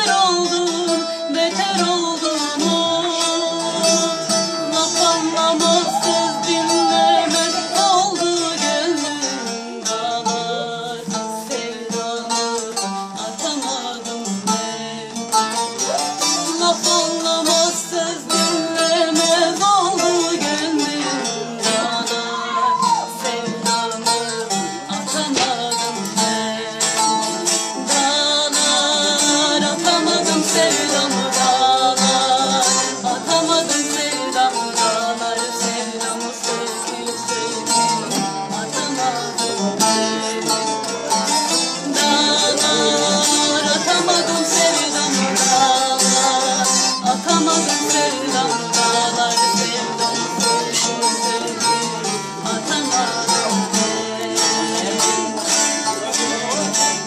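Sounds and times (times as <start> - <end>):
plucked lutes playing folk music: 0.0 - 57.0
woman singing: 0.0 - 57.0.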